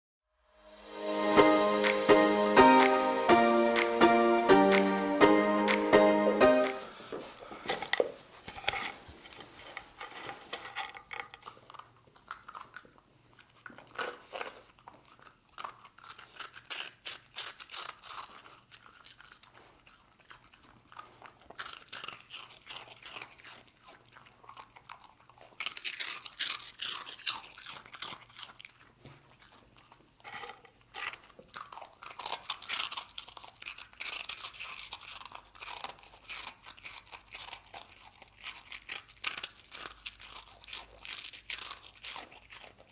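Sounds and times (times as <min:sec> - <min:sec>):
dog crunching dry rusk: 0:07.3 - 0:42.9.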